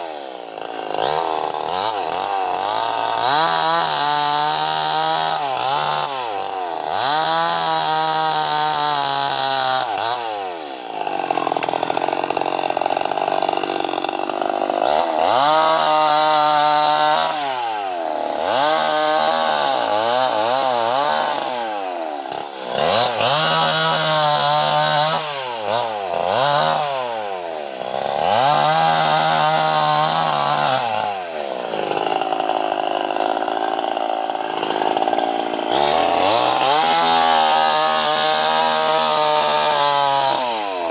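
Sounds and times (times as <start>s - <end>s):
chainsaw revving and cutting: 0.0s - 40.9s.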